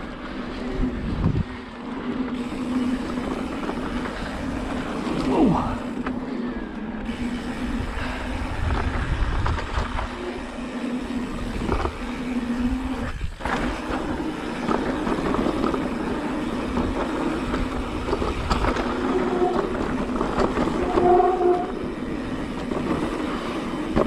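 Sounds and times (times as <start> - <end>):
electric bike motor hum: 0.0 - 24.0
tyres rolling rumble on dirt: 0.0 - 24.0.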